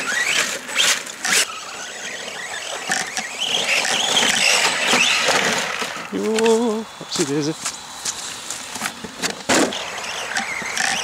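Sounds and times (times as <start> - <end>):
electric motor whining: 0.0 - 7.1, 8.3 - 11.0.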